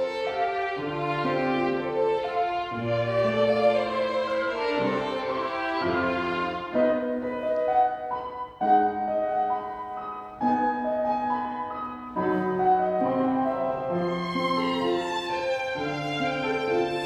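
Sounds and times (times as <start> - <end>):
piano and violin playing slow piece: 0.0 - 17.0
piano chords ringing: 0.0 - 17.0.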